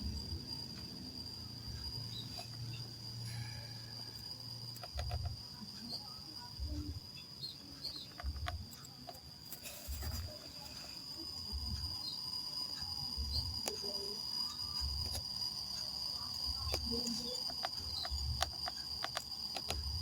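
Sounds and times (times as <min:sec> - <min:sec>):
high-pitched insect chirring: 0:00.0 - 0:20.0
scattered clicks: 0:00.0 - 0:20.0.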